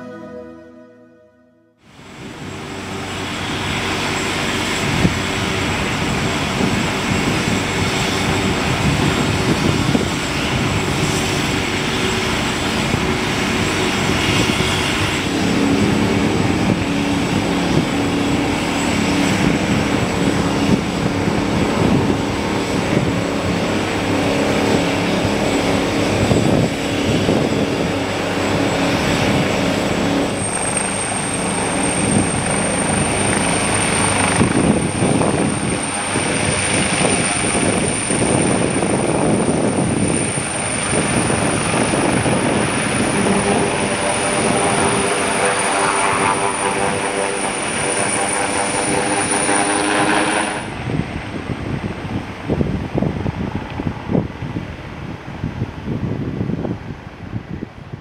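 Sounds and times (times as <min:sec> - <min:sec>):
helicopter running: 0:01.8 - 0:54.7.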